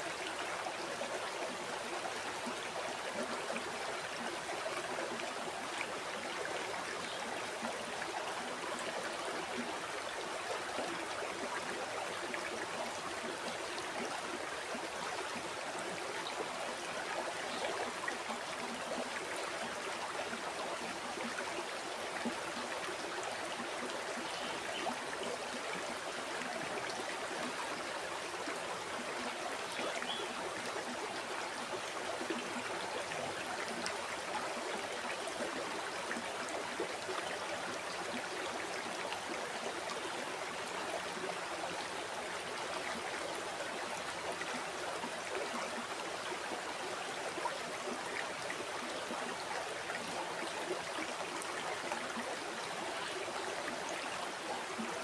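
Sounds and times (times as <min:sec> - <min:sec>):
river water flowing over rocks: 0:00.0 - 0:55.0.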